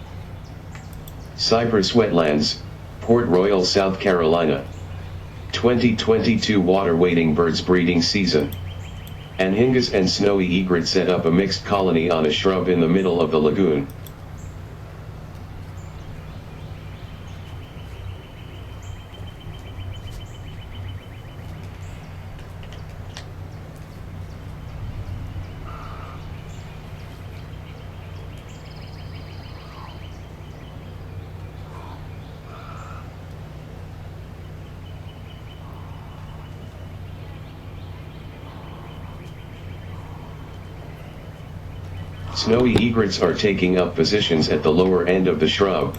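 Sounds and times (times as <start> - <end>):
bird trill: 0.0 - 45.9
steady low hum: 0.0 - 45.9.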